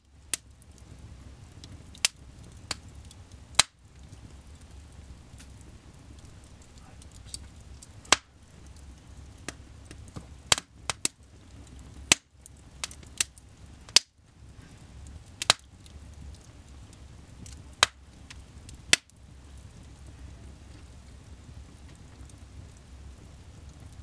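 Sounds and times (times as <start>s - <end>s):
log fire crackling: 0.0s - 24.0s
low rush of flames: 0.0s - 24.0s
sharp pops of fire: 0.0s - 24.0s.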